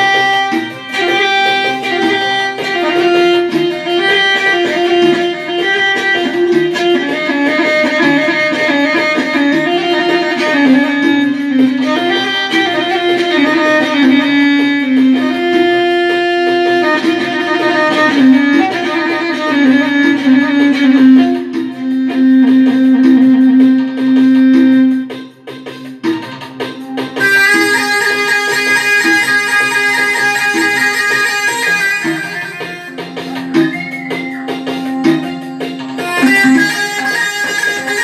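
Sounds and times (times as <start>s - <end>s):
keyboard playing ornamented melody: 0.0s - 38.0s.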